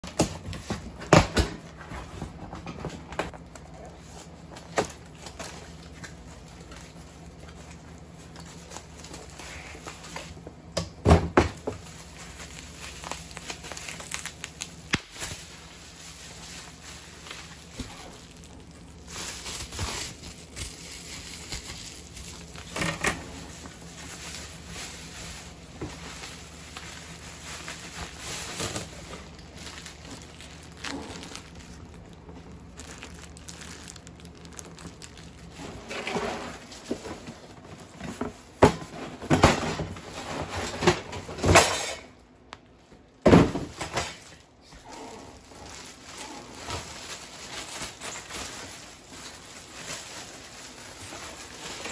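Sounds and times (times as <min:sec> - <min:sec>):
bubble wrap crinkling: 0:00.0 - 0:10.8, 0:11.4 - 0:38.6, 0:42.1 - 0:51.9.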